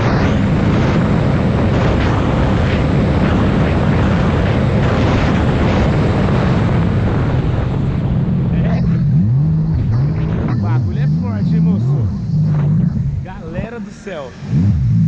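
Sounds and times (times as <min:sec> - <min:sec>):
jet ski engine drone: 0:00.0 - 0:15.0
rushing wind and water: 0:00.0 - 0:15.0.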